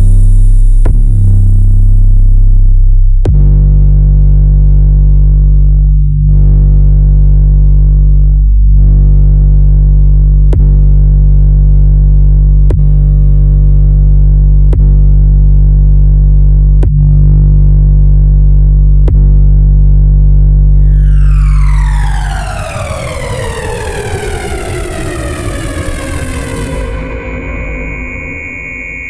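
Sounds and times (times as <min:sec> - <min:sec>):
synthesized bass drone: 0:00.0 - 0:29.0.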